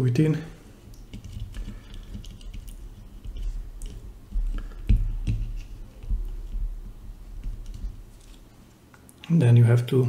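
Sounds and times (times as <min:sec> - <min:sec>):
handling noises with light clicks: 0:00.8 - 0:09.4.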